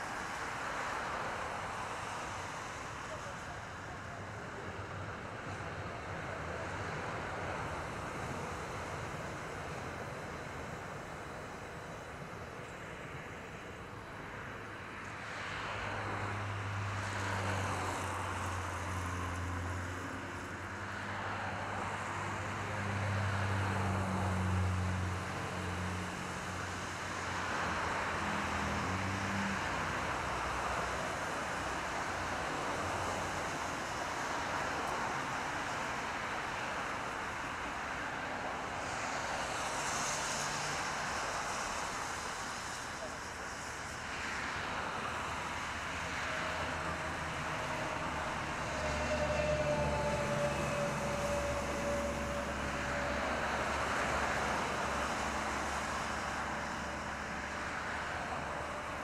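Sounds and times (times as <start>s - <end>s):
tyres rushing on wet road: 0.0s - 59.0s.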